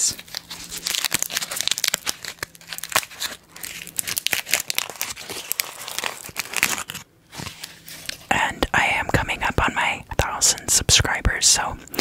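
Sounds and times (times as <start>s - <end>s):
plastic wrapper crinkling: 0.0s - 10.6s.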